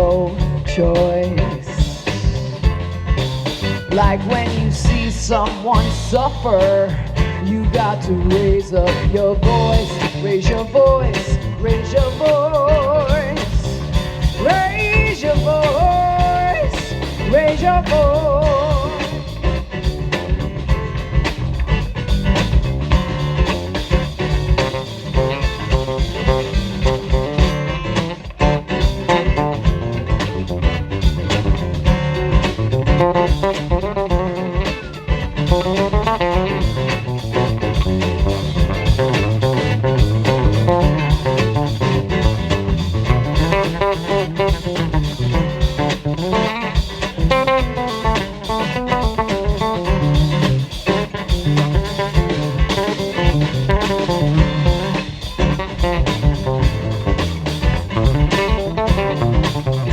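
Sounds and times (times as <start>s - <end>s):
lead guitar with bent notes: 0.0s - 59.9s
live band playing: 0.0s - 59.9s.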